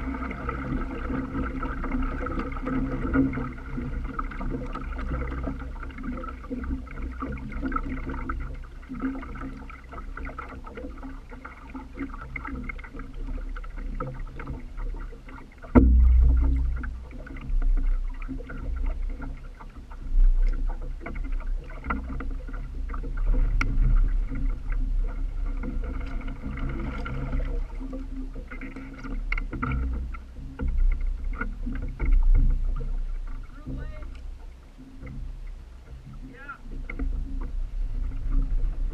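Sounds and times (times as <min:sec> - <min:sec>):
water splashing against boat: 0:00.0 - 0:38.9.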